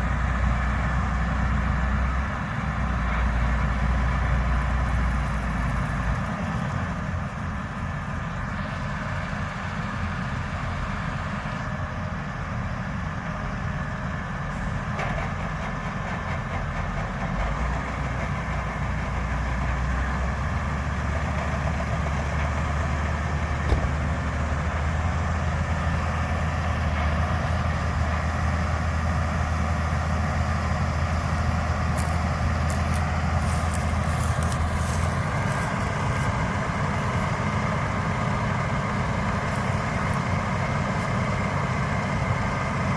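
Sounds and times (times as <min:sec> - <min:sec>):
diesel farm machinery engine hum: 0:00.0 - 0:42.9.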